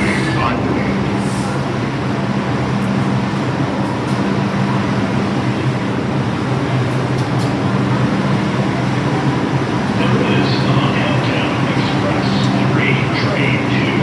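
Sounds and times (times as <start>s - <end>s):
subway train humming: 0.0s - 14.0s
underground station noise: 0.0s - 14.0s.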